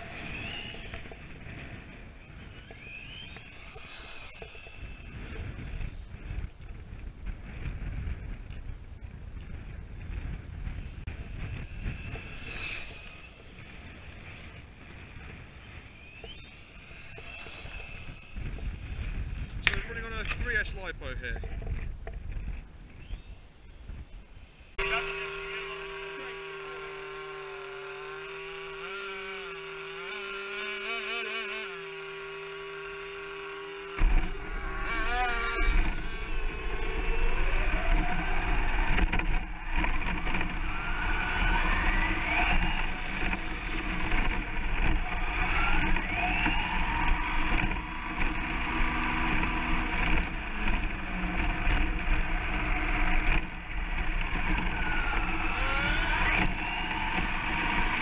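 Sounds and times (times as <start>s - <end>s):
electric motor whines: 0.0s - 6.2s, 10.3s - 19.8s, 22.9s - 58.0s
steady hum: 0.0s - 58.0s.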